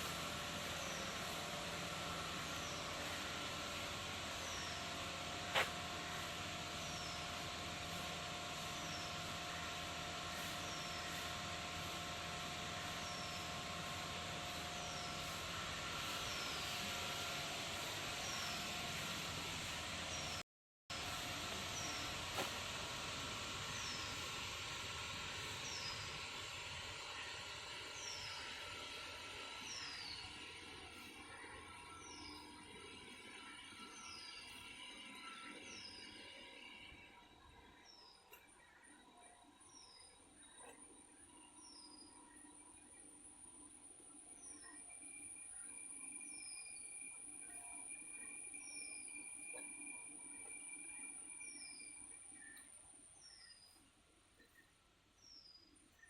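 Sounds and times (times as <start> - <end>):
steady high-pitched whine: 0.0 - 56.0.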